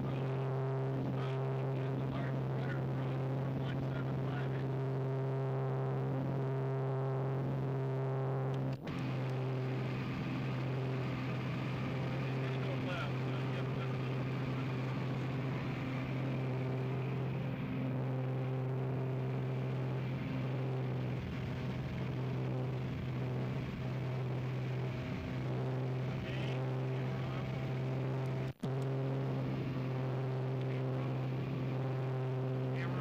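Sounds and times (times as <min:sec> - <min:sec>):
low engine drone: 0:00.0 - 0:33.0.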